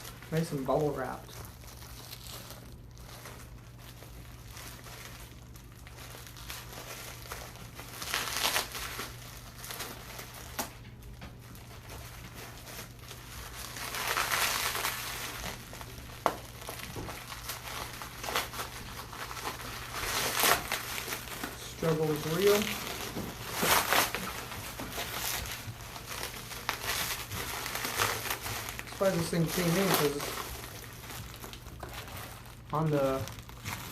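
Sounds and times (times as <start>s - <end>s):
bubble wrap crinkling: 0.0s - 33.9s.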